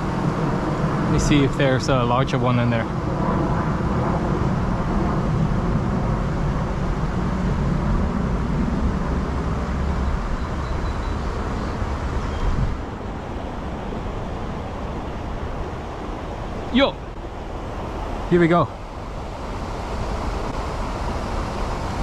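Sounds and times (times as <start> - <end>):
low rumbling outdoor background noise: 0.0 - 22.0.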